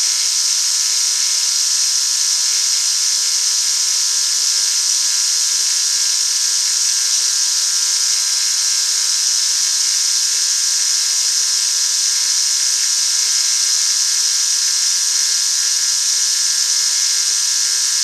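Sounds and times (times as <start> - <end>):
machine tool high-pitched hiss: 0.0 - 18.0.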